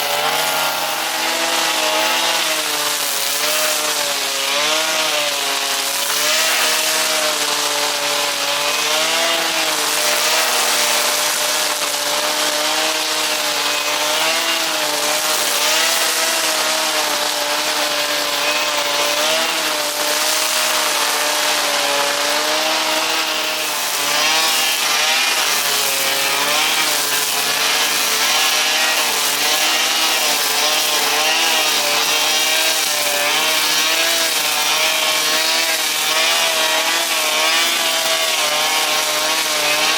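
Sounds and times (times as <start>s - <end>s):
brushcutter engine cutting grass: 0.0s - 39.9s.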